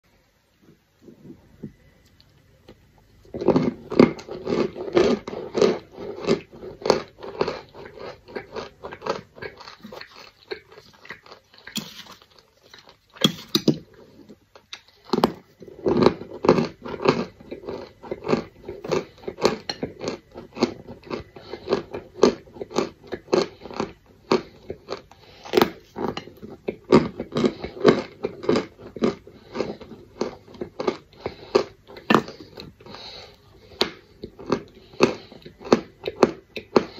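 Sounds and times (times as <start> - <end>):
crunchy chewing: 1.0 - 36.9.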